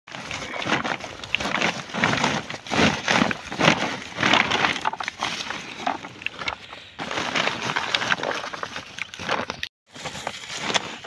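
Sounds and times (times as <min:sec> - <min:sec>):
carrots tumbling and knocking: 0:00.1 - 0:11.0
plastic sack rustling: 0:00.1 - 0:11.0.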